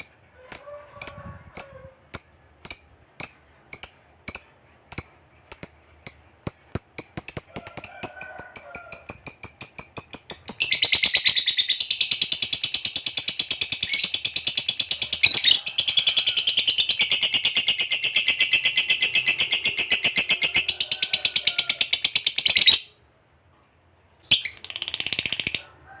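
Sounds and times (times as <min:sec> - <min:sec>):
lovebird chirping and chattering: 0:00.0 - 0:23.0, 0:24.2 - 0:25.6.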